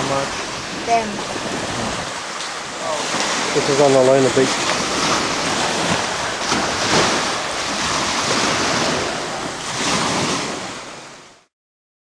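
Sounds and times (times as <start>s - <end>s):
wind buffeting microphone: 0.0s - 11.3s
surf washing onto beach: 0.0s - 11.5s.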